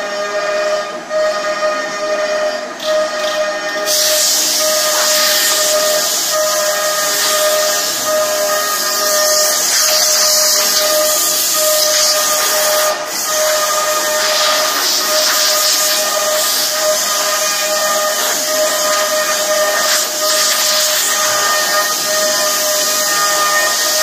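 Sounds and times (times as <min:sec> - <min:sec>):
router spindle whining: 0:00.0 - 0:24.0
compressed air hissing: 0:03.8 - 0:24.0.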